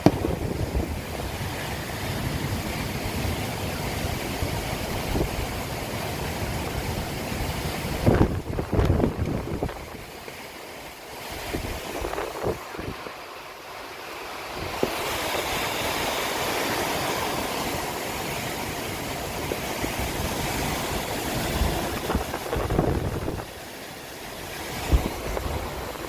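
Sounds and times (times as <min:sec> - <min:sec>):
wind buffeting microphone: 0:00.0 - 0:10.2, 0:11.2 - 0:13.2, 0:14.4 - 0:26.0
heavy rain: 0:00.0 - 0:26.0.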